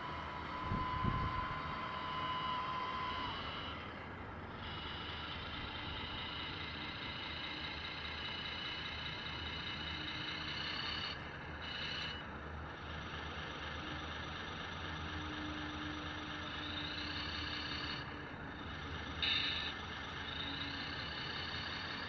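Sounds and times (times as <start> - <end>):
model truck mechanical hum: 0.0 - 22.0.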